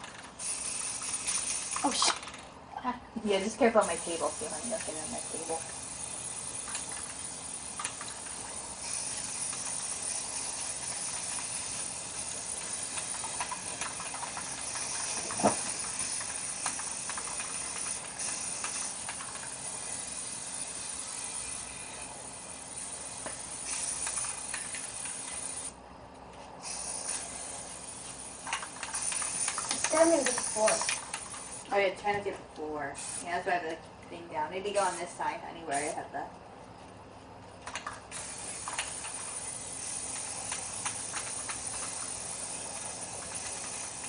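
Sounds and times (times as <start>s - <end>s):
spray paint can hissing: 0.1s - 2.3s, 3.7s - 25.8s, 26.6s - 31.8s, 32.9s - 33.5s, 34.7s - 35.1s, 35.7s - 36.0s, 37.6s - 44.0s.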